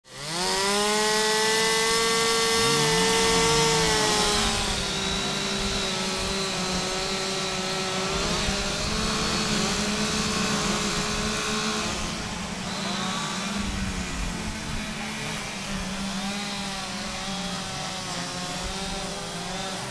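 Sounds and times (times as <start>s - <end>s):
chainsaws running at high revs: 0.0s - 19.9s.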